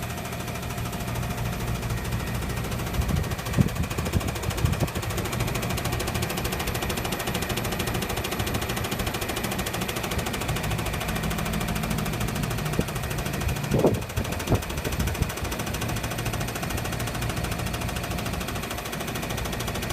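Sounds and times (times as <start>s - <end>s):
air conditioner rattling: 0.0s - 19.9s.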